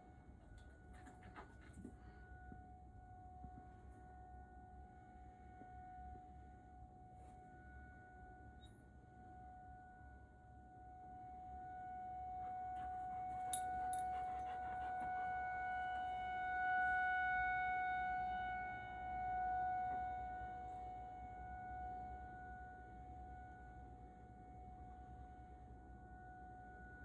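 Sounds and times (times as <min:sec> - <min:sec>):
warning siren steady tone: 0:02.1 - 0:27.0.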